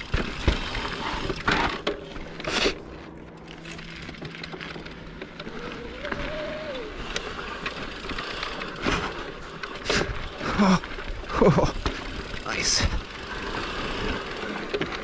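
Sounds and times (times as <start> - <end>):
bike tyres on dirt: 0.0 - 15.0.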